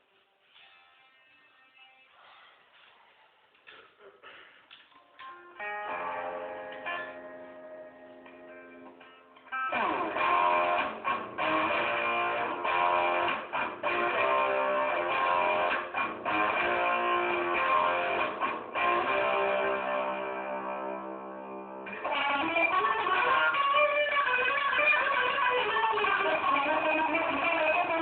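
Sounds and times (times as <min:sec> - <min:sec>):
guitar chords strummed: 0:05.2 - 0:28.0.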